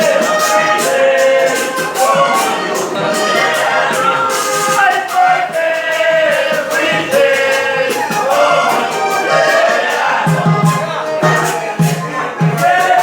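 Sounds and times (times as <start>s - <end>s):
percussion beat: 0.0s - 13.0s
person singing: 0.0s - 13.0s.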